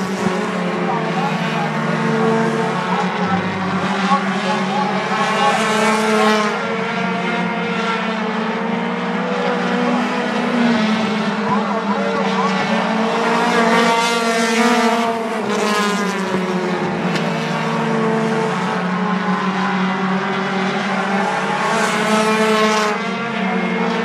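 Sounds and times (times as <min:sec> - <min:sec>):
race car engines at high revs: 0:00.0 - 0:24.0.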